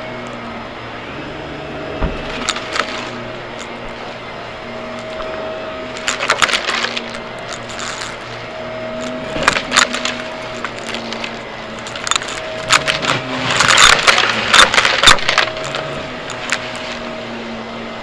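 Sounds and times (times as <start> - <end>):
debris rattling in vacuum: 0.0 - 18.0
vacuum cleaner motor whine: 0.0 - 18.0.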